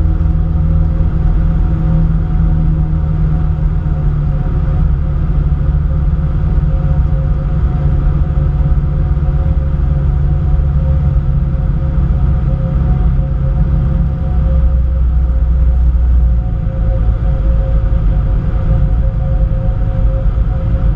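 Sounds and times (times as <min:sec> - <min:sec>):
propeller aircraft engine droning: 0:00.0 - 0:20.9.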